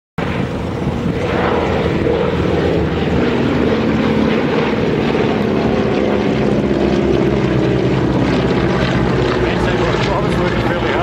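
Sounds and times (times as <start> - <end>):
propeller planes droning in flight: 0.2 - 11.0.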